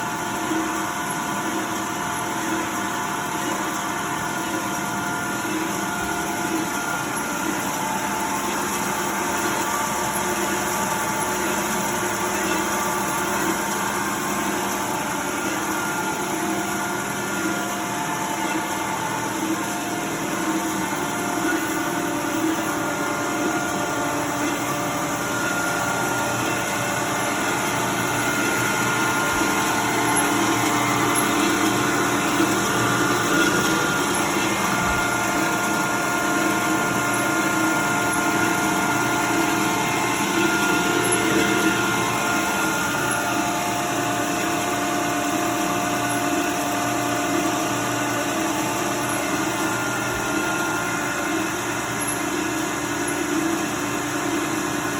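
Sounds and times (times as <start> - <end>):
bandsaw humming and whining: 4.7 - 54.9.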